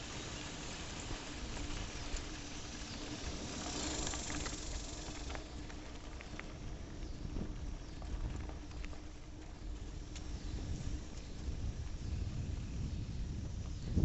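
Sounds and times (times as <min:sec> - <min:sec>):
rumble and hiss: 0:00.0 - 0:14.0.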